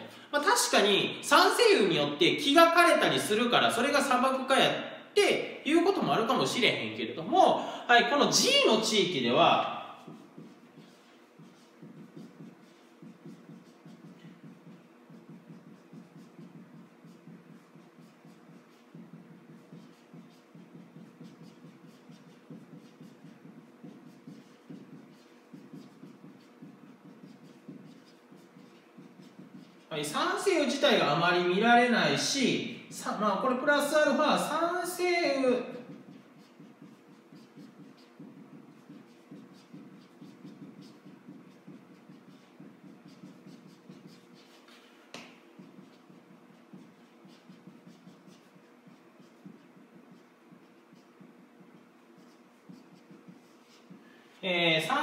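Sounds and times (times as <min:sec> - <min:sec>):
marker scratching on whiteboard: 0:08.3 - 0:32.3, 0:33.0 - 0:54.1.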